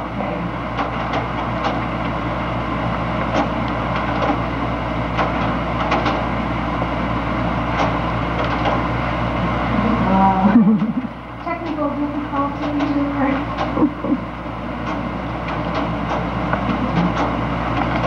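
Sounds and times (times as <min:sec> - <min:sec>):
projector cooling fan humming: 0:00.0 - 0:18.0.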